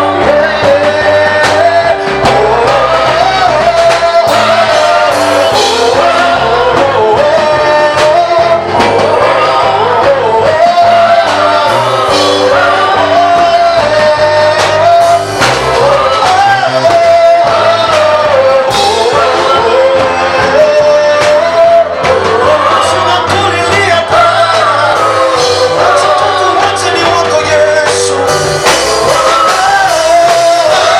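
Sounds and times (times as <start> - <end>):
bass line: 0.0 - 30.9
drum hits: 0.0 - 30.9
group singing a gospel song: 0.0 - 30.9.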